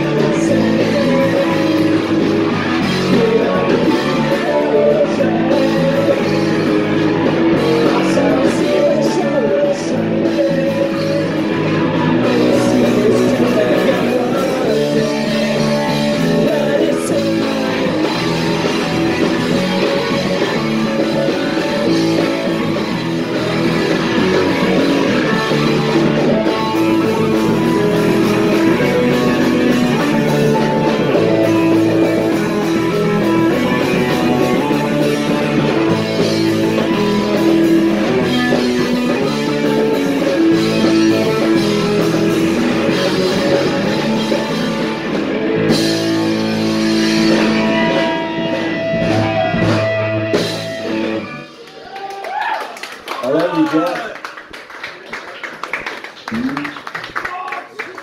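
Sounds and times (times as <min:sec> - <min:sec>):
electric guitar: 0:00.0 - 0:53.4, 0:55.8 - 0:57.2
punk rock band playing: 0:00.0 - 0:53.4.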